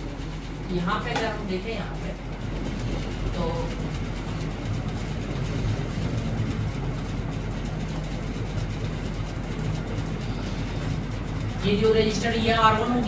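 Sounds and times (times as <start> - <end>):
low room noise rumble: 0.0 - 13.0.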